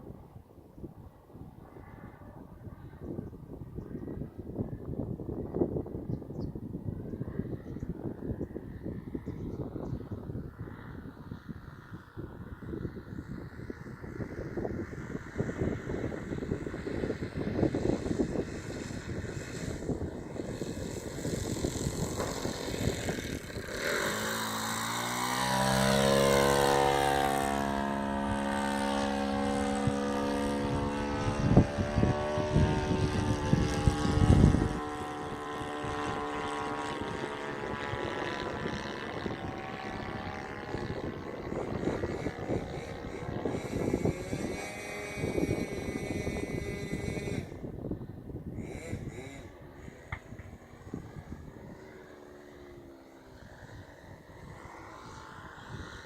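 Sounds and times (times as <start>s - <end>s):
model airplane engine flying past: 0.0s - 56.0s
wind buffeting microphone: 0.0s - 56.0s.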